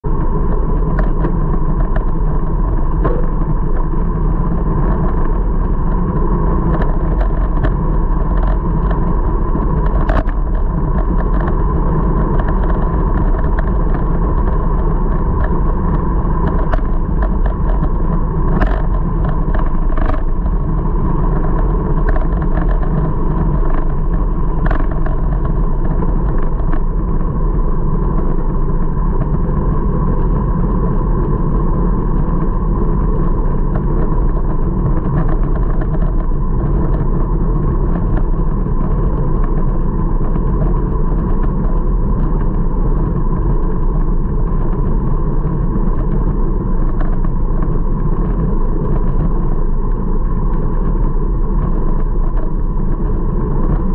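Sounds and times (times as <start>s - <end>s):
wind and road noise: 0.0s - 53.9s
bicycle clicks and rattles: 0.2s - 53.9s.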